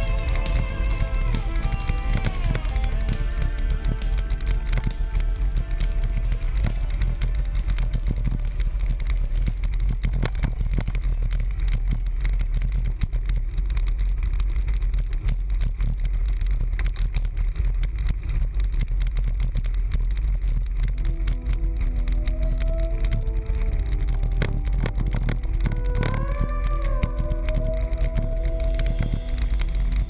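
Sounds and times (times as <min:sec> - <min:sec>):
bike tyres rumbling on gravel: 0:00.0 - 0:30.0.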